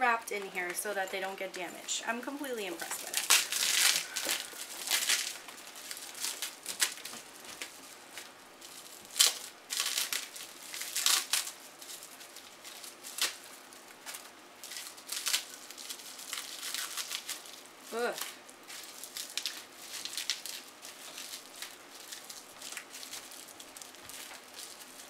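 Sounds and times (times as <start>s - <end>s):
bubble wrap crinkling: 0.0s - 25.0s.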